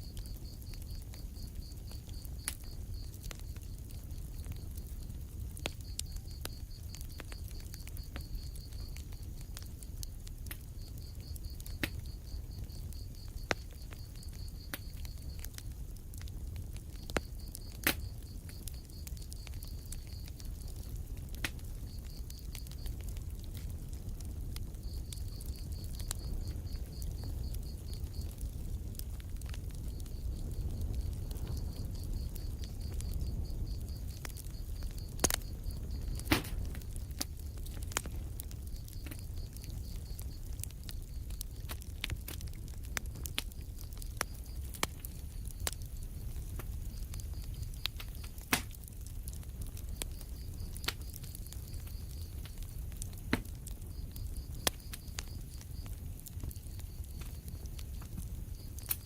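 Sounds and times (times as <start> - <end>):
low rumble of flames: 0.0 - 59.0
sharp pops of burning wood: 0.0 - 59.0
small crackling ticks: 0.0 - 59.0.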